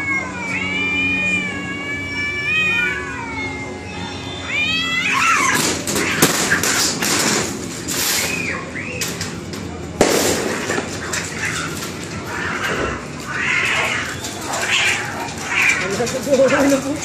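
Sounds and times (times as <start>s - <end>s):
cats fighting screeches: 0.0s - 9.0s, 10.5s - 16.0s
cats yowling: 0.0s - 9.0s, 10.5s - 17.0s.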